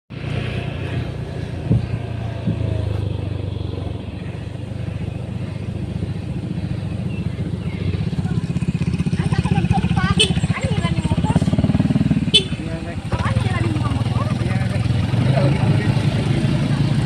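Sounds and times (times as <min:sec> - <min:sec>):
motorcycle engine running: 0:00.1 - 0:17.0.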